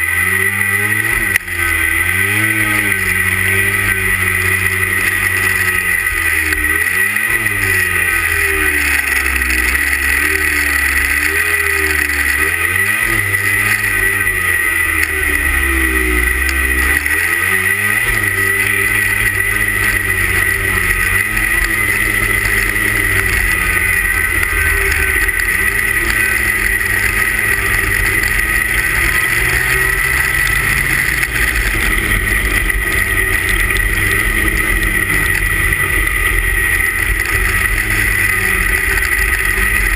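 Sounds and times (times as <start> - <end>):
snowmobile engine revving: 0.0 - 39.9
steady high whine: 0.0 - 39.9.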